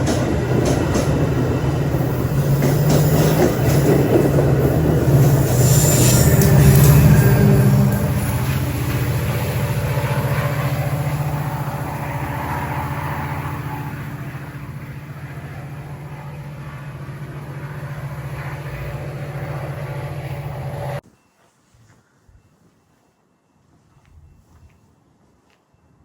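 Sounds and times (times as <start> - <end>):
diesel train drone: 0.0 - 21.0.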